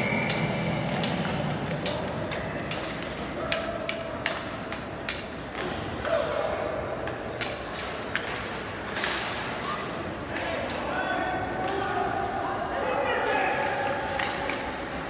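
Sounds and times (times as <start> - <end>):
hockey sticks and puck clacking: 0.0 - 12.3, 13.2 - 15.0
spectators' voices: 0.0 - 15.0.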